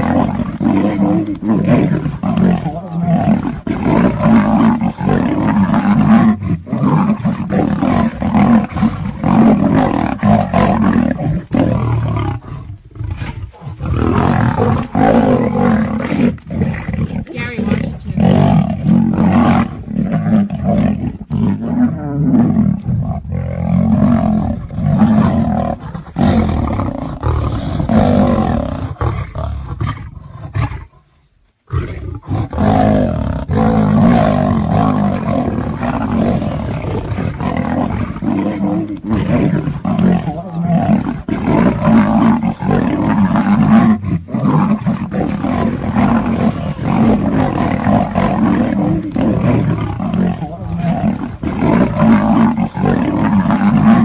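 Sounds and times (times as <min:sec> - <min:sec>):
big cats roaring: 0:00.0 - 0:31.0, 0:31.7 - 0:54.0.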